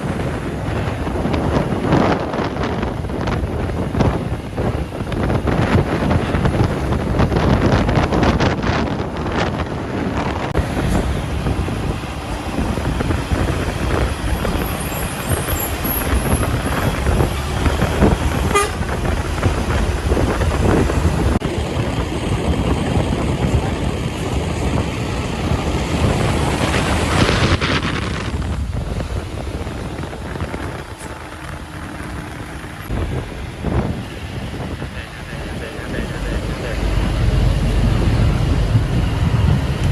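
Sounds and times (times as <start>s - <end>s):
truck driving: 0.0s - 39.9s
wind noise on microphone: 0.0s - 39.9s.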